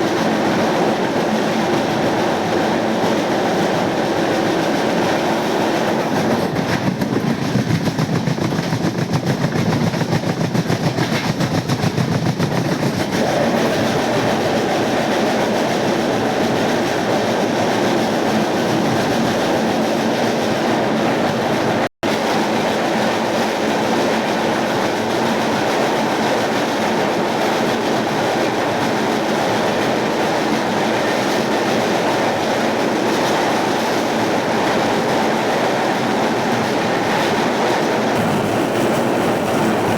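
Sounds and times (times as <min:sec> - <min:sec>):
fast clatter of train wheels: 0:00.0 - 0:39.9
train wheels rumbling: 0:00.0 - 0:39.9.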